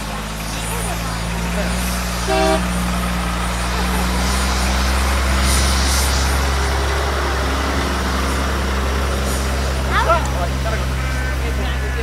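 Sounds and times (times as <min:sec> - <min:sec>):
helicopter turbine running: 0:00.0 - 0:12.0
military truck engine driving past: 0:00.0 - 0:12.0.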